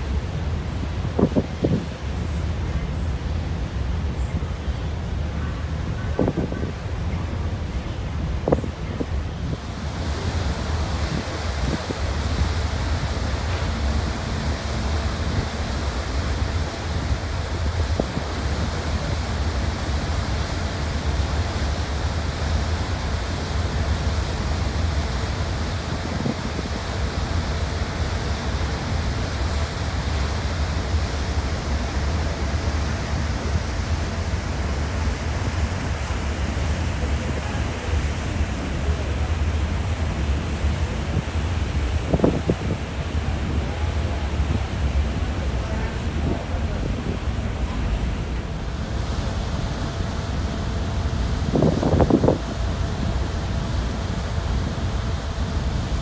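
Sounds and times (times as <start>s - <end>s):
churning boat wake: 0.0s - 56.0s.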